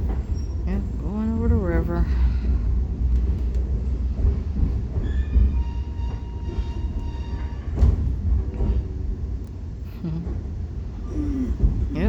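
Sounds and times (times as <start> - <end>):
train rumble from inside coach: 0.0 - 12.0.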